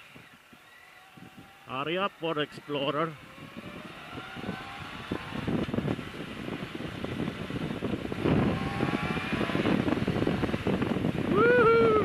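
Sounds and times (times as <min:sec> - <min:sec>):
motorcycle engine revving: 0:00.0 - 0:11.8
wind rushing over microphone: 0:00.0 - 0:12.0.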